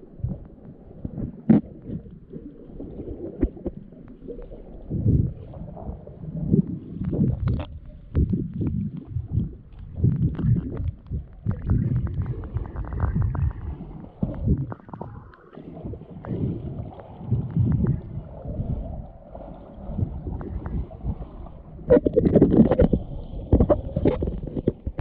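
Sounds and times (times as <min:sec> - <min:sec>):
crackling clicks underwater: 0:00.0 - 0:25.0
underwater water surges: 0:00.0 - 0:25.0.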